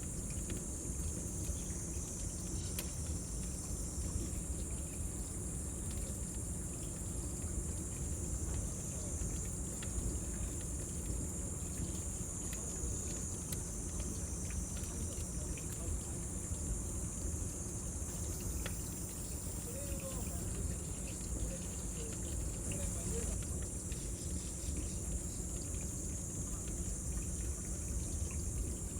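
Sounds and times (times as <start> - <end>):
cicadas droning: 0.0 - 28.9.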